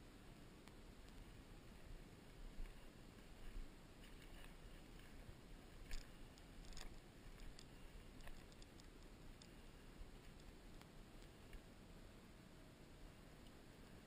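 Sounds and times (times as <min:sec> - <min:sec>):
faint ticks and crackles: 0:00.0 - 0:14.0.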